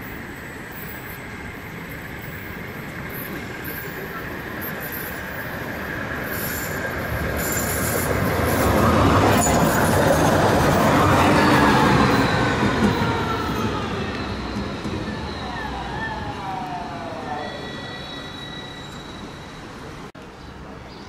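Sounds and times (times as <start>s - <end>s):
wheels rumbling on rail: 0.0s - 20.7s.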